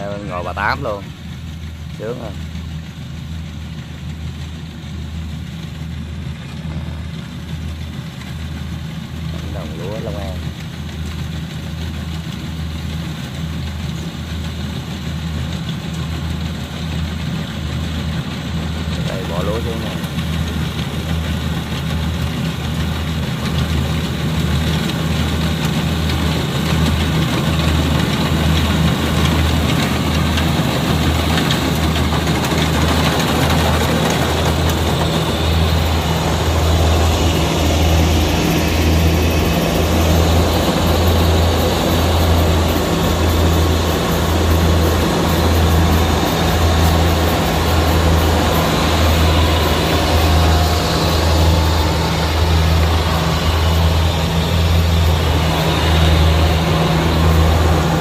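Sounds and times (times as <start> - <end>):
throbbing diesel engine hum: 0.0 - 58.0.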